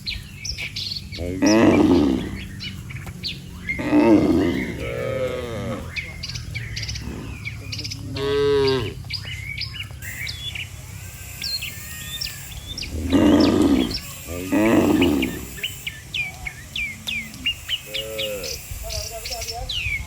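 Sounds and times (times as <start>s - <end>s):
cattle lowing: 0.0s - 20.0s
small birds chirping: 0.0s - 20.0s.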